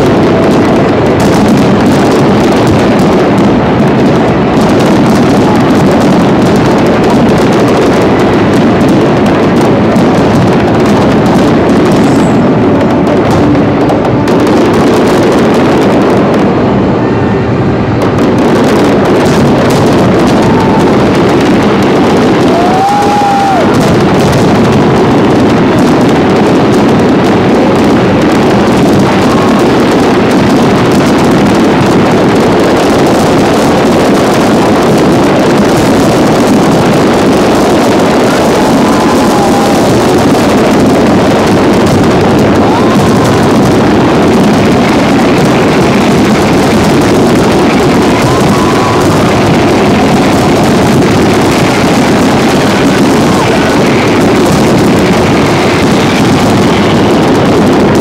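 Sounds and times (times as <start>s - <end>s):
fireworks bursts rumbling: 0.0s - 58.0s.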